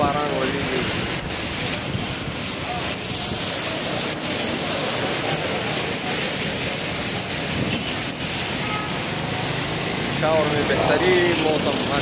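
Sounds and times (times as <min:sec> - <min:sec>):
heavy rain on street: 0:00.0 - 0:12.0.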